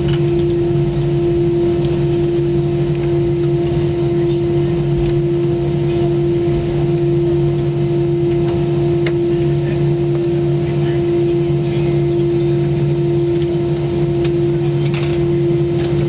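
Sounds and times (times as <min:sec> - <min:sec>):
jet engines idling in cabin: 0:00.0 - 0:16.0.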